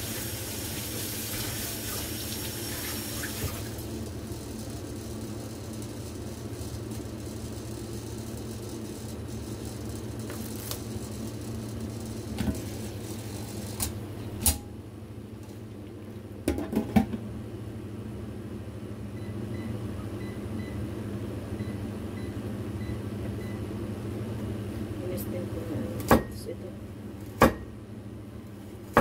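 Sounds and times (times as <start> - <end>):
kitchen appliance humming: 0.0 - 29.0.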